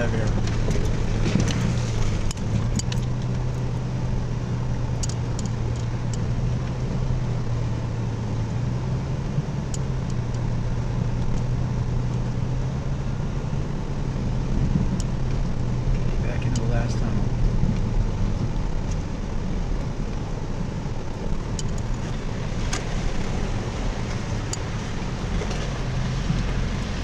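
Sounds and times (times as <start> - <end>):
vehicle engine and tyres droning: 0.0 - 27.0.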